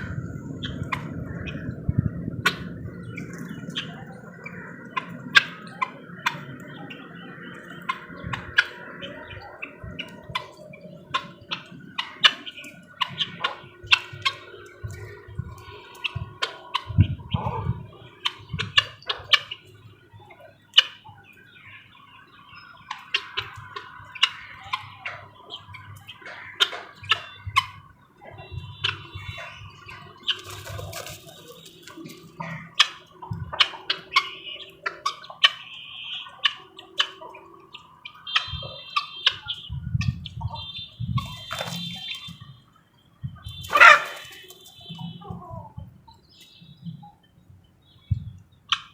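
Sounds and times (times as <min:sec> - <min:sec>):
birds chirping and squawking: 0:00.0 - 0:48.9.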